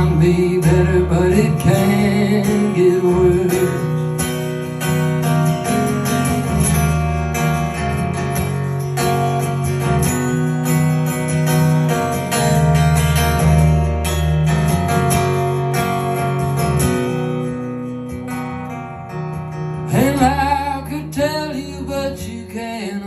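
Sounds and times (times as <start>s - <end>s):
strummed guitar: 0.0s - 23.0s.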